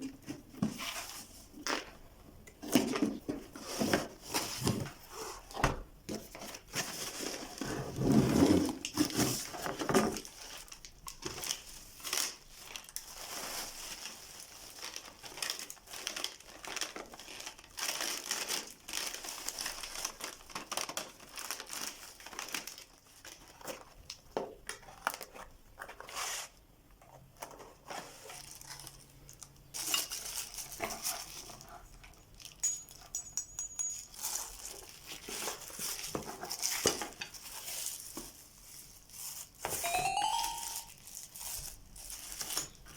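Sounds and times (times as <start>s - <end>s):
plastic and cardboard crinkling: 2.6s - 39.8s, 40.4s - 42.9s.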